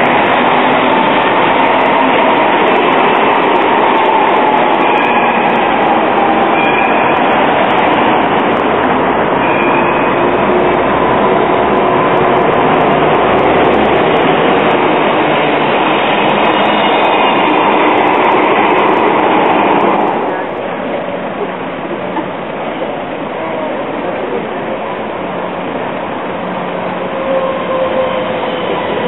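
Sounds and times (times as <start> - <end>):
street noise: 0.0 - 29.0
tram running on track: 0.0 - 29.0.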